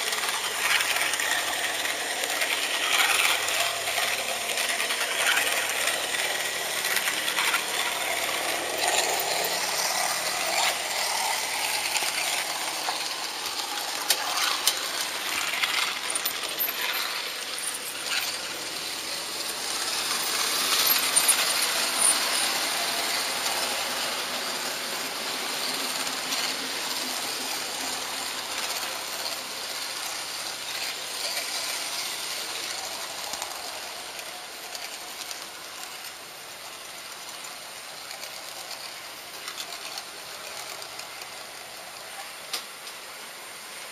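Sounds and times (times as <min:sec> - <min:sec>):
model train wheels rattling on rails: 0:00.0 - 0:43.9.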